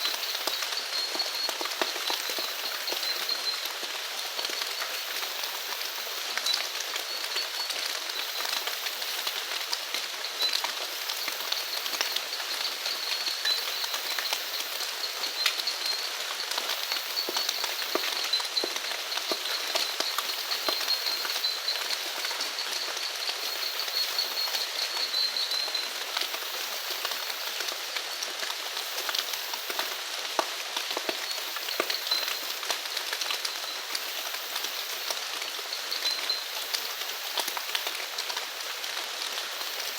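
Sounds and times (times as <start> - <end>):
raindrops tapping close by: 0.0 - 39.9
steady rain: 0.0 - 39.9.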